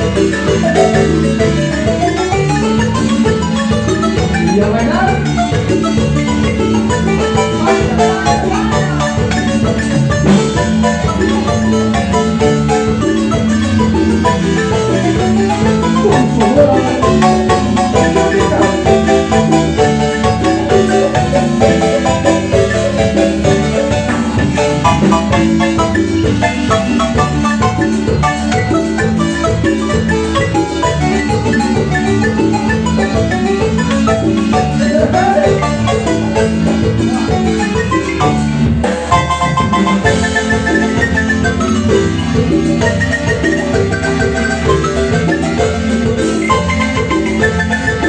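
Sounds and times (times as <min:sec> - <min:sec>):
marimba dance music: 0:00.0 - 0:48.0.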